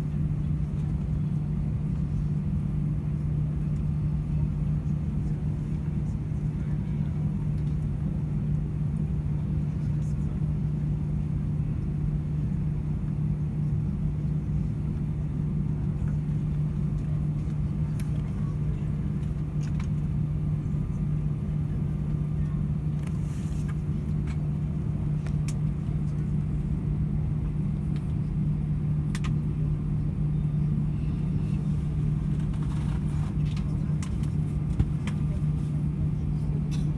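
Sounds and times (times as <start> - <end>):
aircraft cabin engine drone: 0.0 - 36.9
constant low hum: 0.0 - 36.9.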